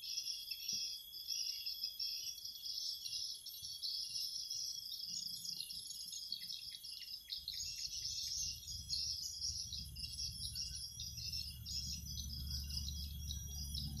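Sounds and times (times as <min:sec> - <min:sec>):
insects chirring: 0:00.0 - 0:14.0
short insect chirps: 0:00.0 - 0:14.0.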